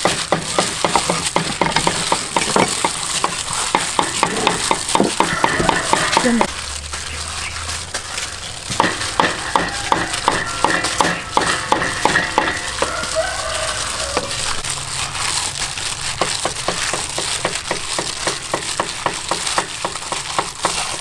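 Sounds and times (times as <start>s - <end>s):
wet squishing of meat mixing: 0.0s - 21.0s.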